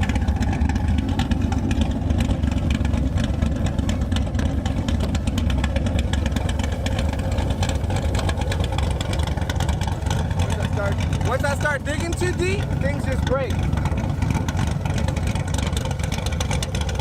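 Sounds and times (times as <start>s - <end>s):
car engine idling: 0.0s - 17.0s
engine clicks and rattles: 0.0s - 17.0s.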